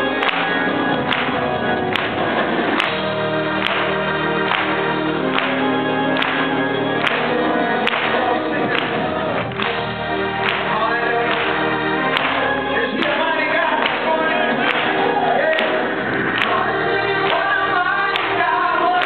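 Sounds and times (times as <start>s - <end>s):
group singing into microphones: 0.0s - 19.0s
musical accompaniment: 0.0s - 19.0s.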